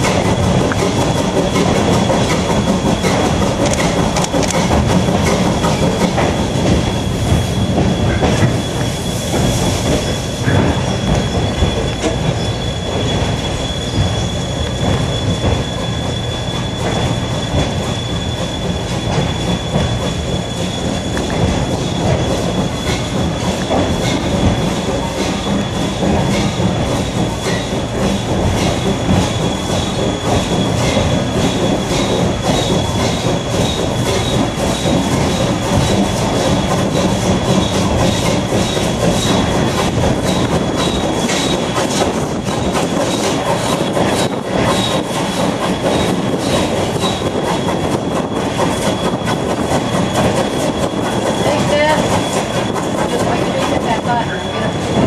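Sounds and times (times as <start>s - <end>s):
train wheels rumbling over rails: 0.0s - 55.0s
high-pitched wheel squeal: 5.2s - 55.0s.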